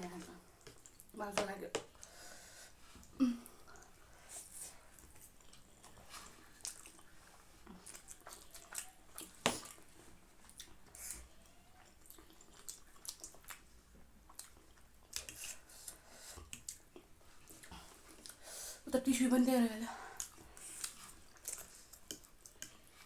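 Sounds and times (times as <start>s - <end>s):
noodles being chewed and slurped: 1.9s - 18.8s, 20.0s - 23.0s.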